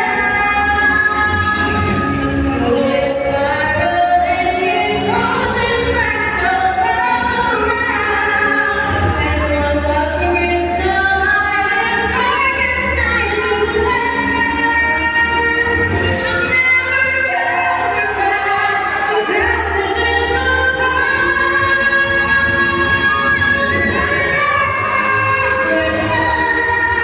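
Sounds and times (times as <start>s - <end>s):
amplified backing music: 0.0s - 27.0s
woman singing: 0.0s - 27.0s.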